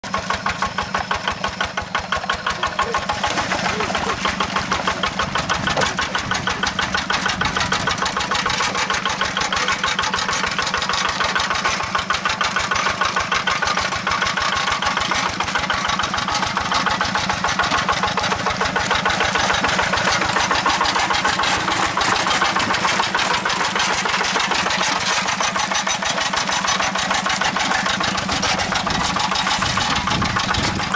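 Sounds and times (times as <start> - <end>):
hand tractor engine chugging: 0.0 - 30.9.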